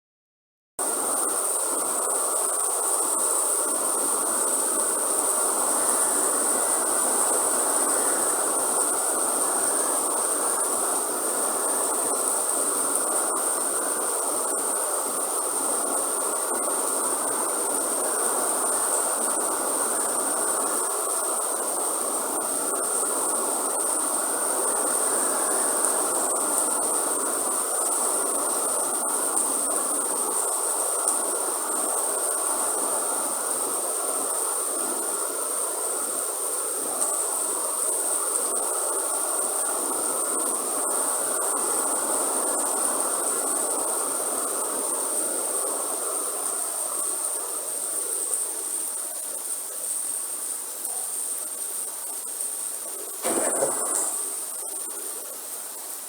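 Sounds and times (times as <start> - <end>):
heavy rain falling: 0.8 - 56.0
high-pitched insect drone: 0.9 - 55.8.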